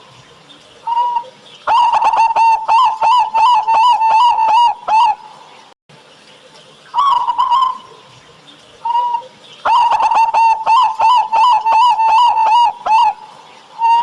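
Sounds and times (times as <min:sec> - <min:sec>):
doves cooing: 0:00.8 - 0:05.4, 0:07.0 - 0:14.0.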